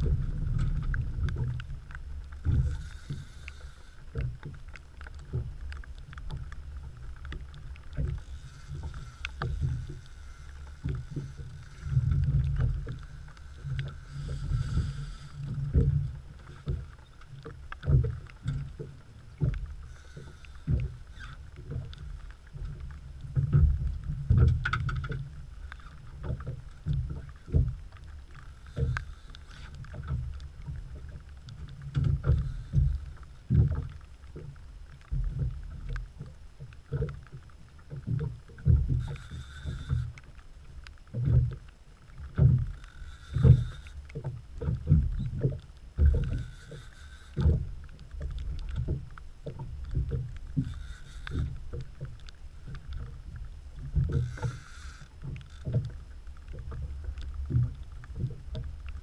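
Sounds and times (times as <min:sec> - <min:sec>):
raindrops ticking on camera: 0:00.0 - 0:59.0
wind and rain rumble: 0:00.0 - 0:59.0.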